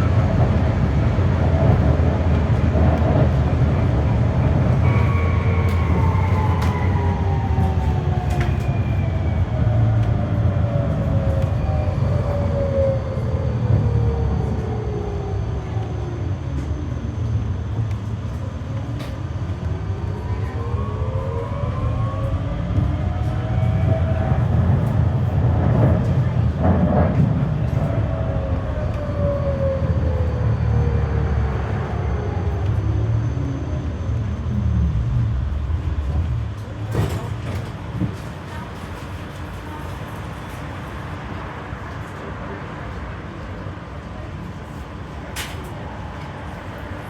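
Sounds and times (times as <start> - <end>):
tram drive whining: 0.0 - 47.0
tram wheels rumbling on rail: 0.0 - 47.0.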